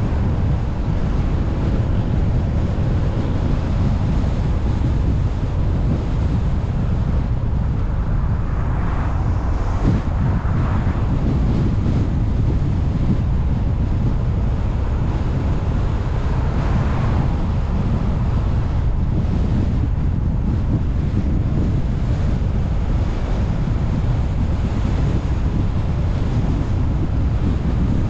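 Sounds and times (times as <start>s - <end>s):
car driving rumble: 0.0s - 28.0s
wind buffeting microphone: 0.0s - 28.0s.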